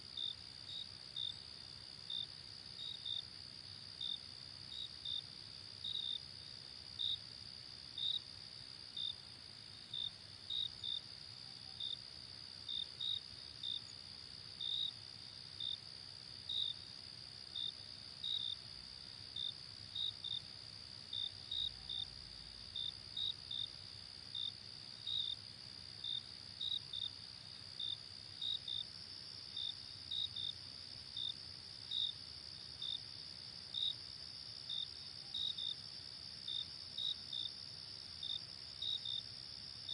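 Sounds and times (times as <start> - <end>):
insect chirps: 0.1 - 39.9.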